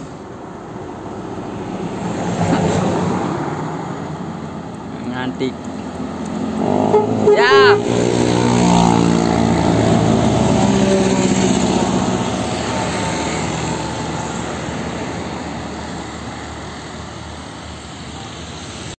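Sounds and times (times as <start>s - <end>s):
bus diesel engine pulling away: 0.0s - 19.0s
passing road traffic: 0.0s - 19.0s.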